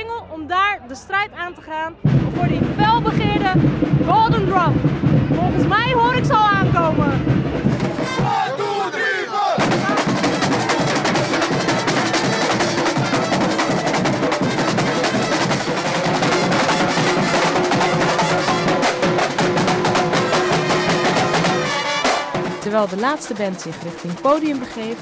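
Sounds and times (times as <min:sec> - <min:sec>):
marching drums playing: 0:02.0 - 0:25.0.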